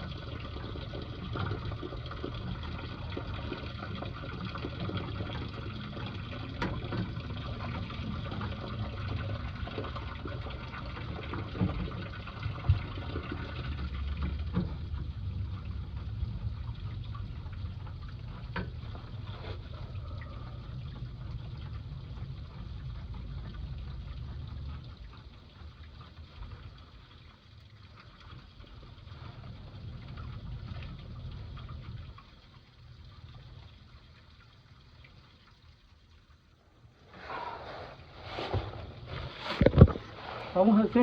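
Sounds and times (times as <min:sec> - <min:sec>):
water running from pipe: 0:00.0 - 0:41.0.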